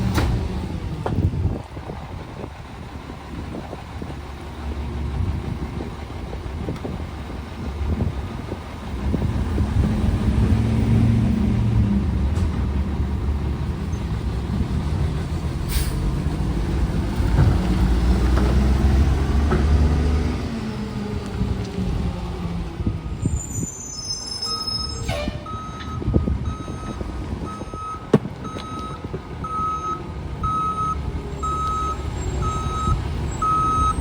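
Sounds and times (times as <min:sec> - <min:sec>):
garbage truck diesel engine: 0:00.0 - 0:34.0.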